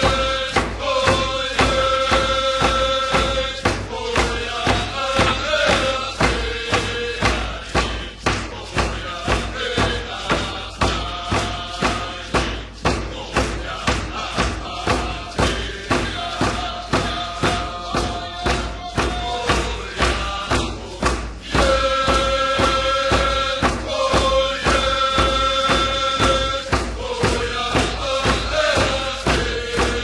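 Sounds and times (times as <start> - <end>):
chanting voices: 0.0 - 30.0
drum struck steadily: 0.0 - 30.0.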